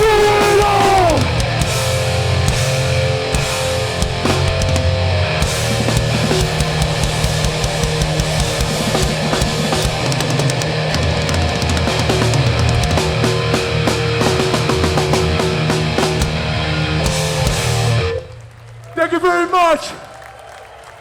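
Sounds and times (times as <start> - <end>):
punk band playing live: 0.0 - 18.4.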